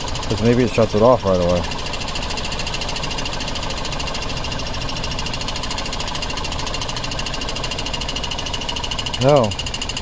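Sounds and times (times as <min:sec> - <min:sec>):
car engine idling and misfiring: 0:00.0 - 0:10.0.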